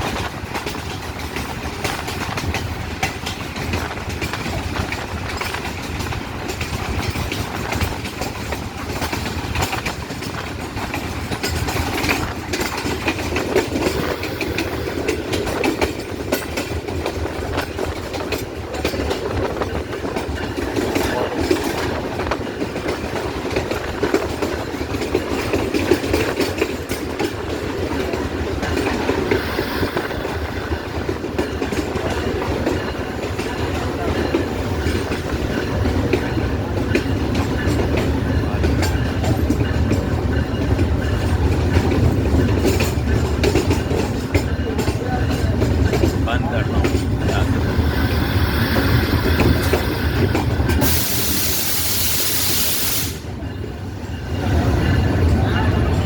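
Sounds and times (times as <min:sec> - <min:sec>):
train rumbling along track: 0:00.0 - 0:56.0
wheels clicking over rails: 0:00.0 - 0:56.0.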